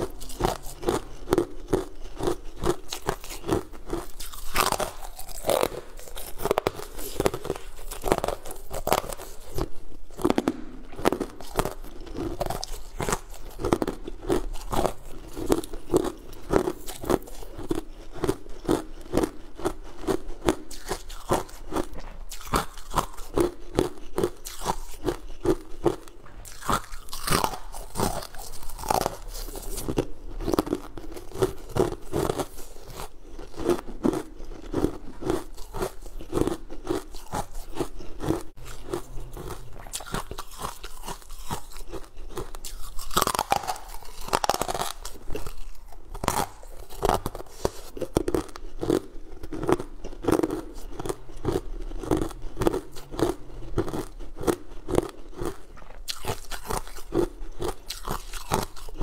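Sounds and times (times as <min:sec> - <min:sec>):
chewing crunchy candy: 0:00.0 - 0:59.0.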